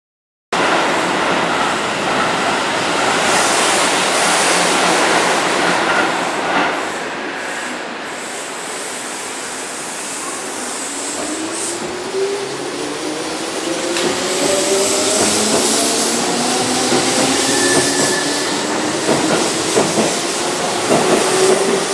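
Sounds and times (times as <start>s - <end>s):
train rushing noise: 0.6s - 21.9s.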